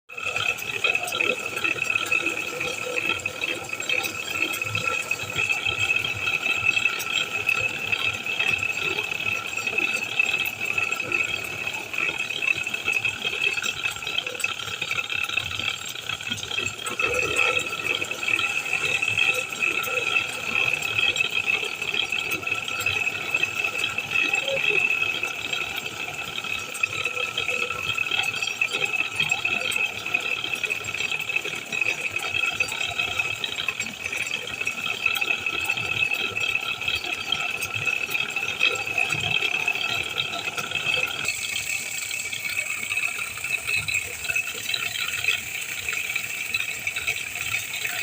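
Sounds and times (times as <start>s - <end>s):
continuous crackly rattling: 0.1s - 48.0s.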